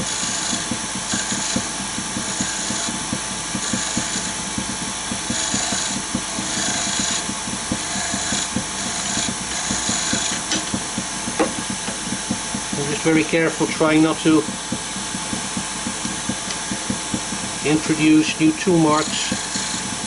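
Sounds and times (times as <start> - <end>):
hiss of tool cutting wood: 0.0 - 20.0
wood lathe running: 0.0 - 20.0.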